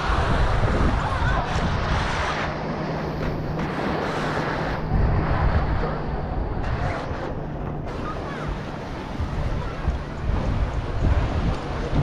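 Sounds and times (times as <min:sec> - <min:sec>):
low motor hum: 0:00.0 - 0:12.0
waves washing on a beach: 0:00.0 - 0:12.0
wind buffeting microphone: 0:00.0 - 0:12.0.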